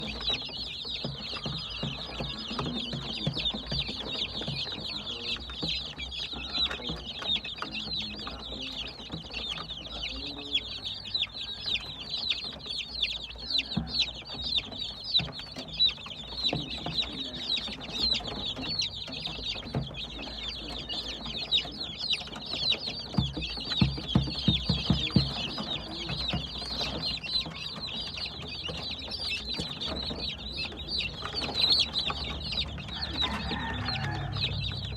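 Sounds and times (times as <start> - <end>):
baby chicks peeping: 0.0 - 34.9.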